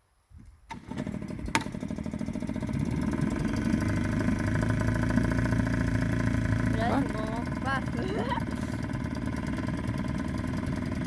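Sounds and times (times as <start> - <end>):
outboard motor running: 0.7 - 11.0.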